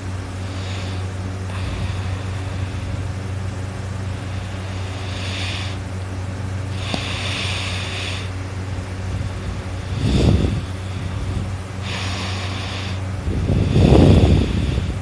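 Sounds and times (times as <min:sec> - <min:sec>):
person breathing heavily: 0:00.0 - 0:15.0
steady low hum: 0:00.0 - 0:15.0.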